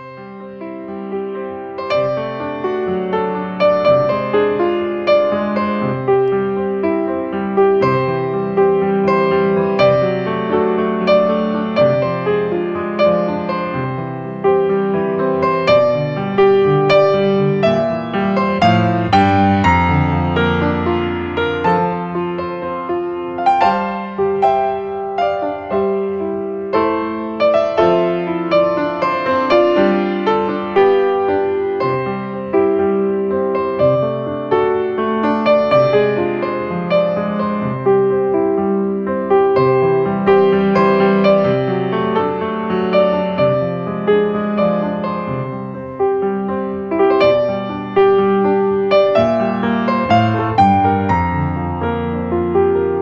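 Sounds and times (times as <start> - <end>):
gentle piano piece: 0.0 - 53.0.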